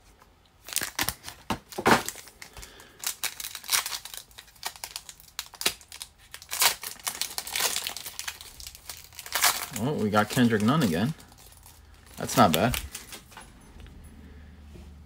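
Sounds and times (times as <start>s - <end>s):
foil wrapper crinkling and tearing: 0.6s - 13.2s.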